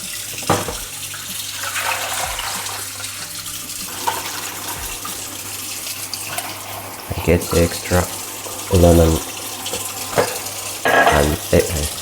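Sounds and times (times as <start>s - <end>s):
kitchen tap running: 0.0s - 12.0s.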